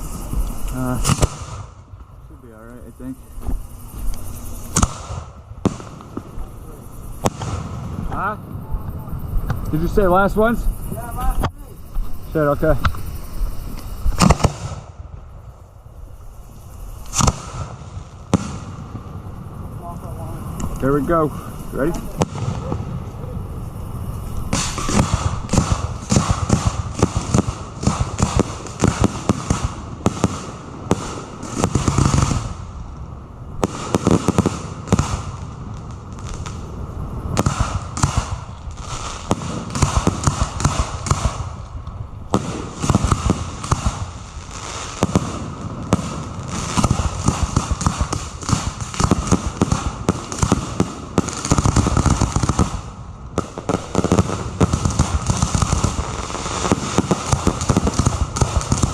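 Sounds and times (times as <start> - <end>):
fireworks launching and bursting: 0.0 - 58.9.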